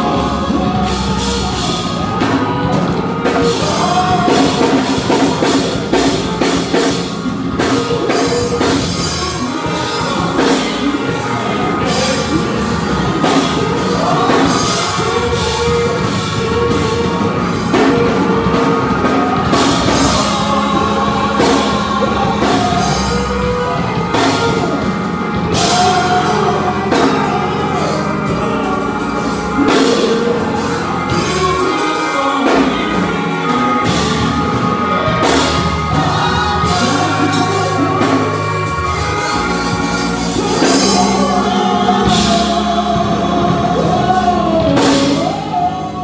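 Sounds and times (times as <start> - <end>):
band with drums: 0.0 - 46.0
gospel singers on microphones: 0.0 - 46.0.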